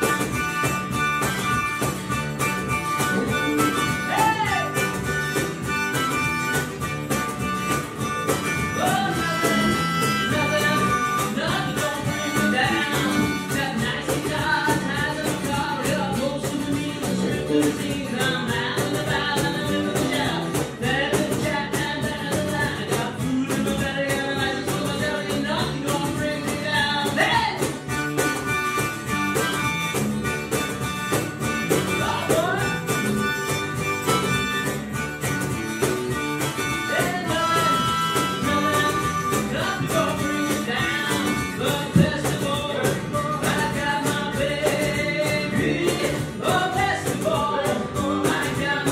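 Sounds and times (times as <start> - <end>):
band music with guitar and singing: 0.0 - 48.9.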